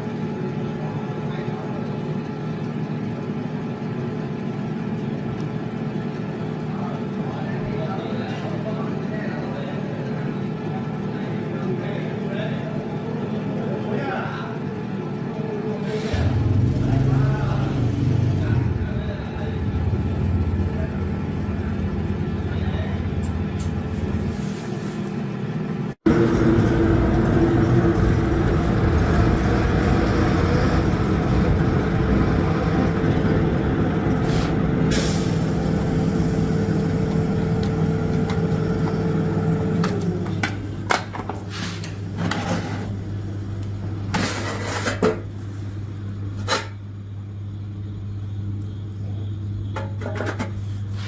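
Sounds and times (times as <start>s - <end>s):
air fryer fan motor hum: 0.0s - 51.0s.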